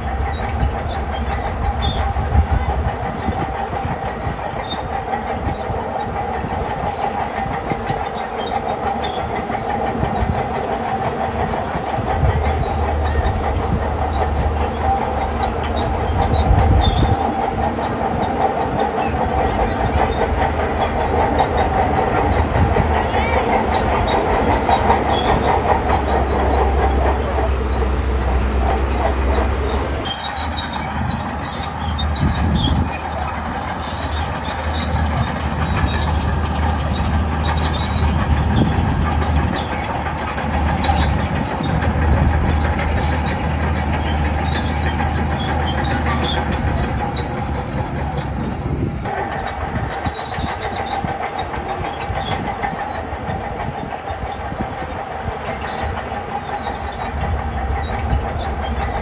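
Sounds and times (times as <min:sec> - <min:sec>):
bulldozer diesel engine running: 0:00.0 - 0:59.0
steel tracks clanking and squeaking: 0:00.0 - 0:59.0.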